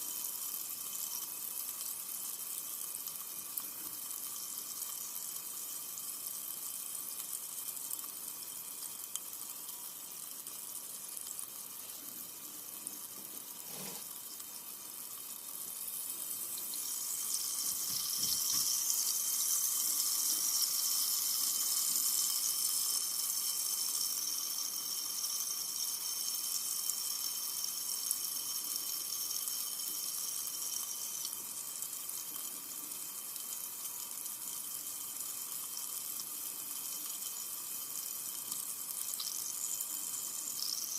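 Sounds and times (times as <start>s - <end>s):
carbonated soda fizzing: 0.0s - 40.9s.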